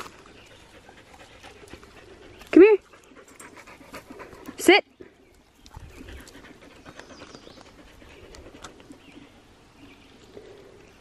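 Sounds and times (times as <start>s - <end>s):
dog panting: 0.0s - 9.3s.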